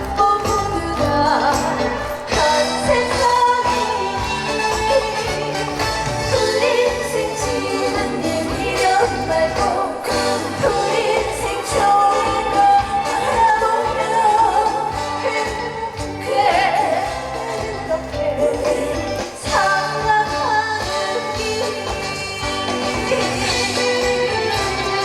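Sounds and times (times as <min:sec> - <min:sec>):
backing music: 0:00.0 - 0:25.0
woman singing: 0:00.0 - 0:25.0.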